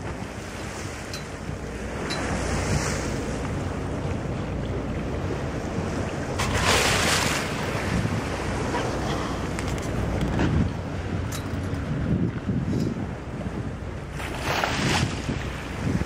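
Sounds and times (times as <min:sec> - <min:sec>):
sea wash: 0:00.0 - 0:16.0
wind buffeting microphone: 0:00.0 - 0:16.0.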